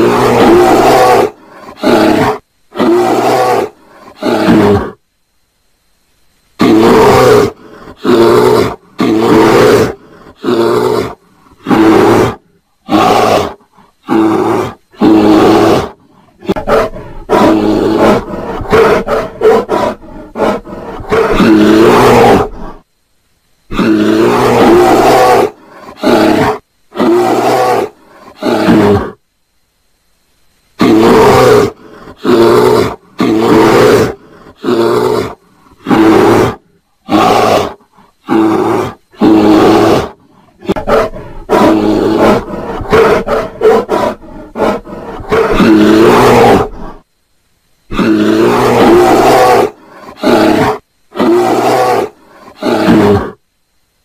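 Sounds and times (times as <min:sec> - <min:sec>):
bear growling and roaring: 0:00.0 - 0:05.0, 0:06.6 - 0:22.8, 0:23.7 - 0:29.2, 0:30.8 - 0:47.0, 0:47.9 - 0:53.4.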